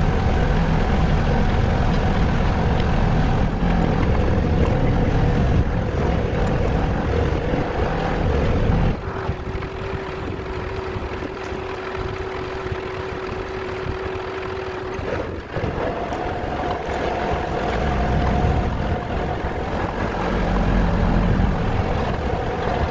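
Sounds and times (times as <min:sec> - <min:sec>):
engine humming: 0:00.0 - 0:22.9.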